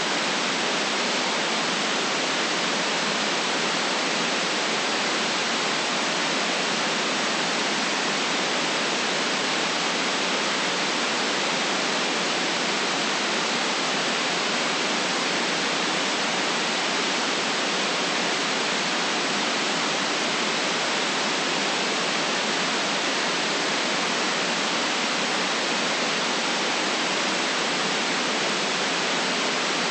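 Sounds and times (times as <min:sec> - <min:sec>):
white noise hiss: 0:00.0 - 0:29.9.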